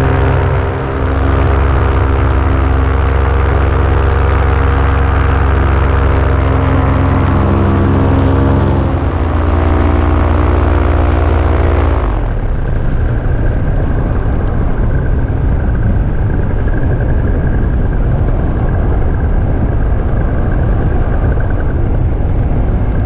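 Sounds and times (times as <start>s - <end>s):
paramotor engine and propeller: 0.0s - 23.0s.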